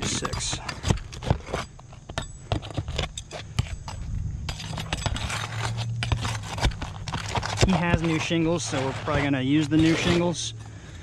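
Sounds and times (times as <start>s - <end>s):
shingles clicking and scraping: 0.0s - 11.0s
steady low hum: 0.0s - 11.0s.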